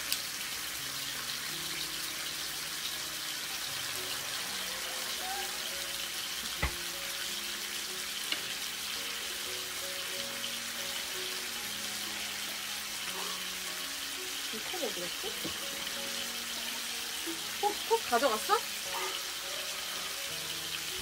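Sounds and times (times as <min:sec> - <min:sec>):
meat sizzling on grill pan: 0:00.0 - 0:21.0
soft background music: 0:00.0 - 0:21.0.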